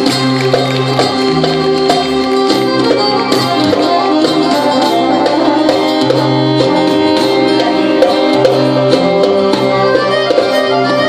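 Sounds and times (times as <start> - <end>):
hand drum beat: 0.0 - 11.0
violin: 0.0 - 11.0.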